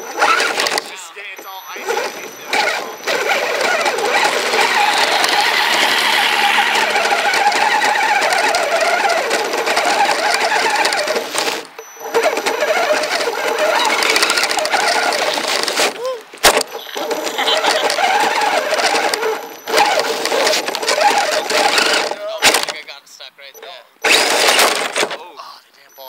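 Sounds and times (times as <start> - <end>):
toy vehicle motor and tracks whirring: 0.0 - 22.9, 23.6 - 25.2.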